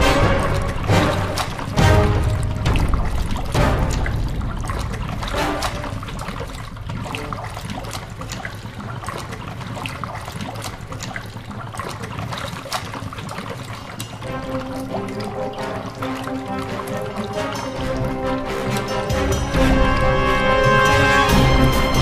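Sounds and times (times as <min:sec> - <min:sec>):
water trickling and bubbling: 0:00.0 - 0:22.0.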